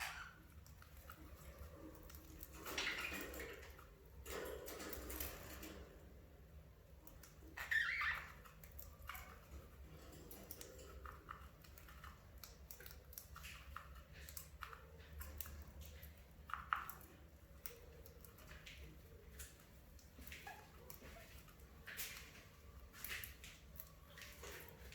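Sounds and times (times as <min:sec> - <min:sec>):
light clicks and scratches: 0:00.0 - 0:24.9.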